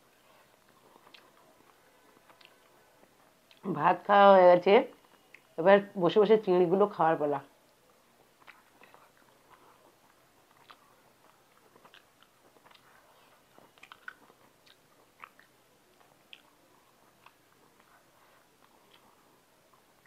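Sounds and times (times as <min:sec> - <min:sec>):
person chewing and smacking: 0:00.2 - 0:03.7, 0:04.9 - 0:05.6, 0:07.7 - 0:20.0.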